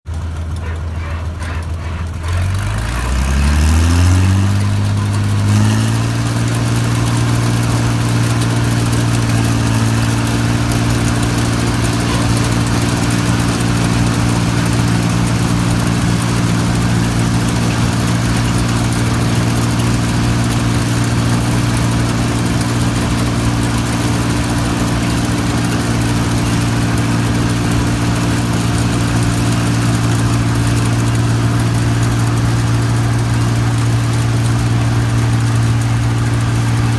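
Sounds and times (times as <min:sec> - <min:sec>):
diesel engine speeding up: 0:00.1 - 0:36.9.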